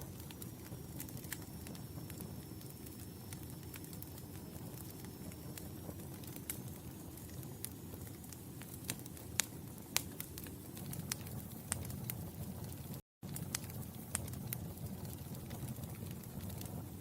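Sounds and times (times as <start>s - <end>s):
fire pops and snaps: 0.0s - 17.0s
low rumble of flames: 0.0s - 17.0s.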